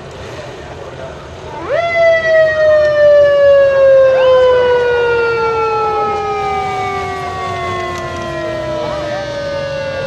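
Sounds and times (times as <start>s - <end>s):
police motorcycle sirens: 1.3s - 10.0s.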